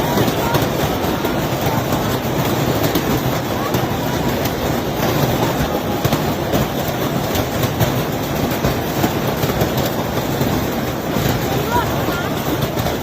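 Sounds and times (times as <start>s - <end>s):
hailstones clattering: 0.0s - 13.0s.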